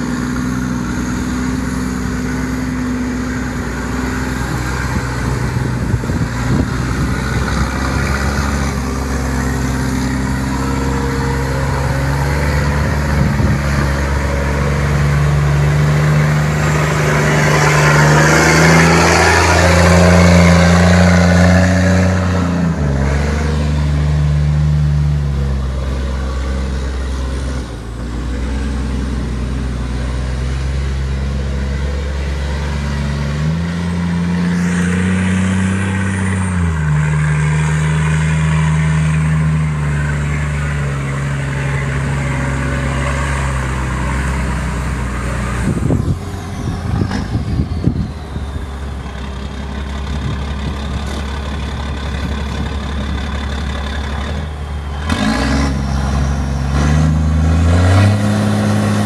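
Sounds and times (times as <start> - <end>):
diesel truck engine under load: 0.0 - 59.0.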